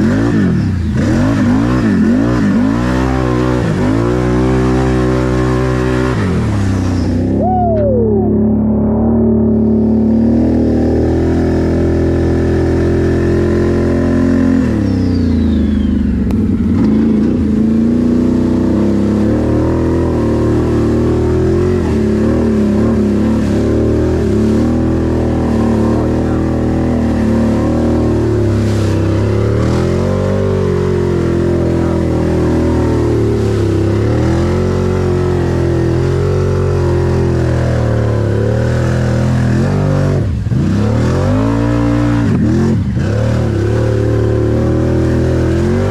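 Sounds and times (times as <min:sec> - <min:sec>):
atv engine revving: 0:00.0 - 0:45.9.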